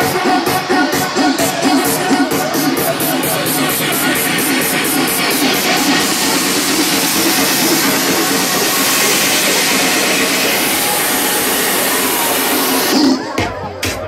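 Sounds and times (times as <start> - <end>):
crowd cheering and shouting: 0.0 - 14.0
party music: 0.0 - 14.0.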